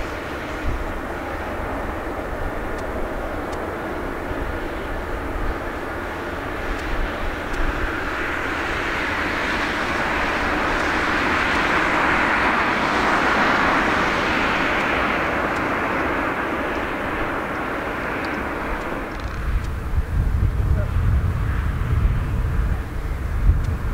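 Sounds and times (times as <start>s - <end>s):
jet airliner engine noise: 0.0s - 23.9s
wind buffeting microphone: 0.0s - 23.9s.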